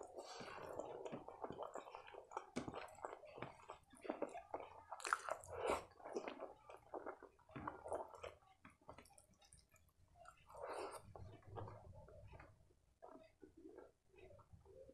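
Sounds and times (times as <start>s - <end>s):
chewing: 0.0s - 14.9s.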